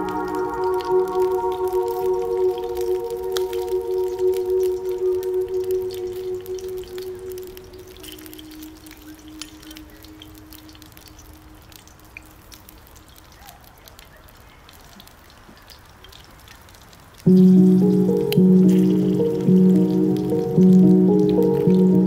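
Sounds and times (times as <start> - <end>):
peppers sizzling in a pan: 0.0 - 22.0
wood fire crackling: 0.0 - 22.0.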